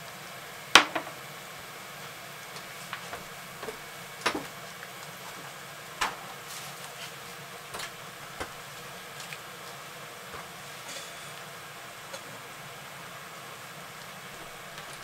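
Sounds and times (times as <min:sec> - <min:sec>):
bacon sizzling in a skillet: 0:00.1 - 0:15.0.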